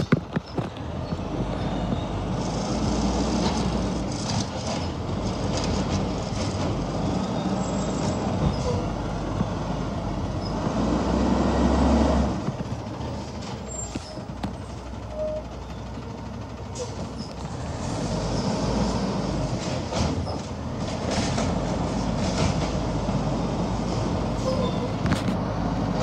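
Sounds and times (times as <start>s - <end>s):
garbage truck diesel engine rumbling: 0.0s - 26.0s.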